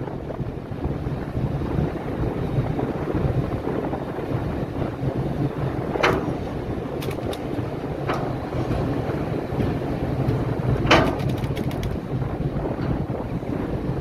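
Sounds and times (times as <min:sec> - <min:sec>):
ship engines droning: 0:00.0 - 0:14.0
wind on microphone: 0:00.0 - 0:14.0.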